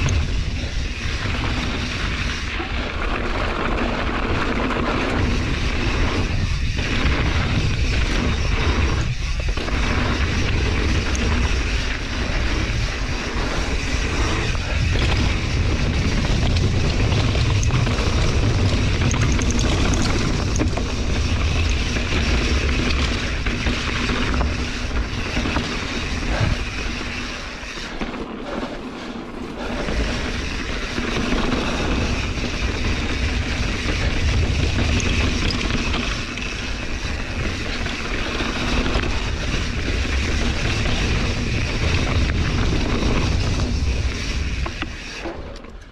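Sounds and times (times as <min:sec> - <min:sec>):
bike tyres rolling on dirt: 0:00.0 - 0:45.9
wind rumbling on microphone: 0:00.0 - 0:45.9.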